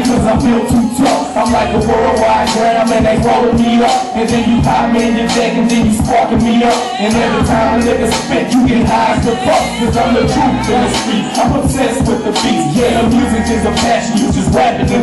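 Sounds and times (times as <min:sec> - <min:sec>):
hip-hop beat with heavy bass: 0:00.0 - 0:15.0
vocals: 0:00.0 - 0:15.0.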